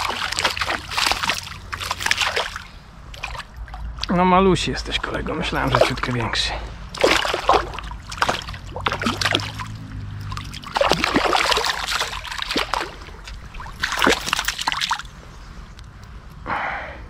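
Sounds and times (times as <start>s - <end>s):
water splashing: 0.0s - 15.2s.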